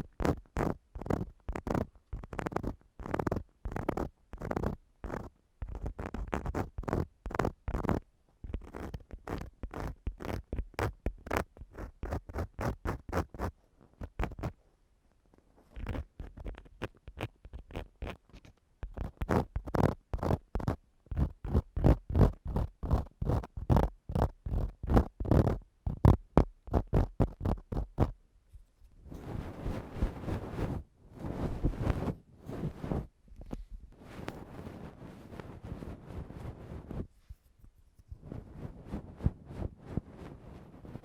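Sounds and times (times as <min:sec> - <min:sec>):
tool scratching on a microphone: 0:00.0 - 0:14.6, 0:15.6 - 0:41.0.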